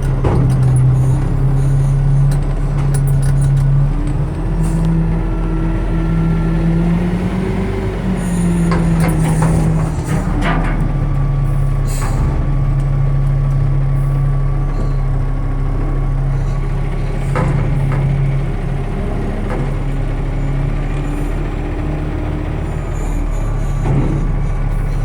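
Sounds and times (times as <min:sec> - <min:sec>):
garbage truck diesel engine running: 0:00.0 - 0:25.0.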